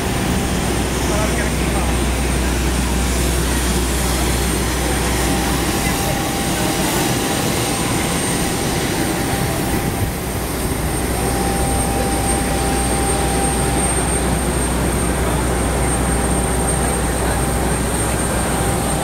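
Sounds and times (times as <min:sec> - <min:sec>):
aircraft turbine whine: 0:00.0 - 0:19.0.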